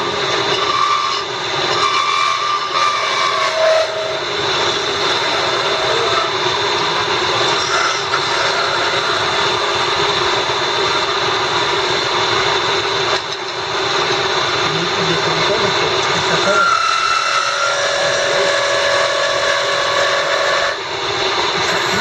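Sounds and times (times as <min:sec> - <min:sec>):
wood lathe humming: 0:00.0 - 0:22.0.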